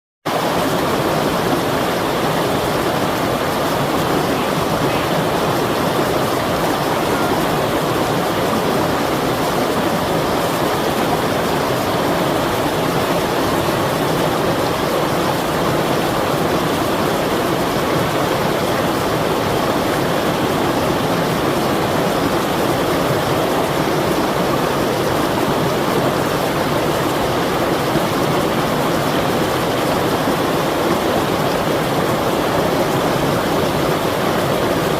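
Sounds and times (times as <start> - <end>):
water rushing: 0.3 - 34.9.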